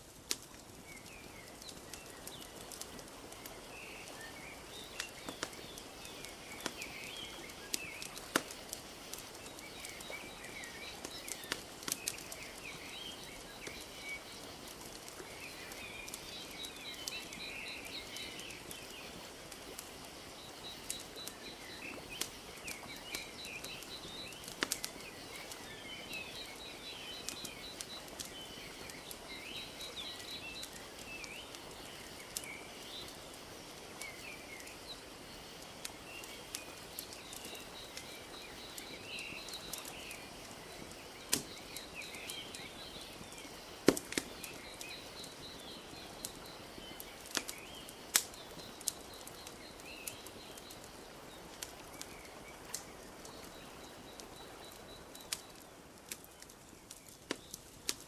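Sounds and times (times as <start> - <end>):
small birds chirping: 0.0 - 58.0
wood fire crackling: 0.0 - 58.0.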